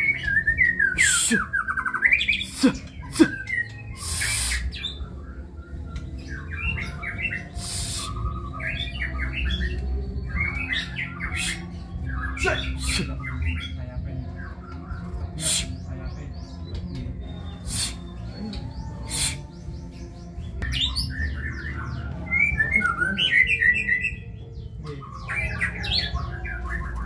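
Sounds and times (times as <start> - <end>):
bird singing varied phrases: 0.0 - 27.0.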